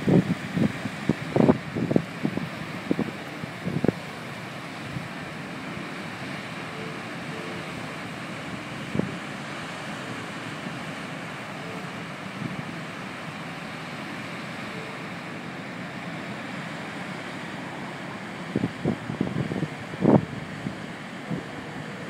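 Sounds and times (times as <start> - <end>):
churning water: 0.0 - 22.0.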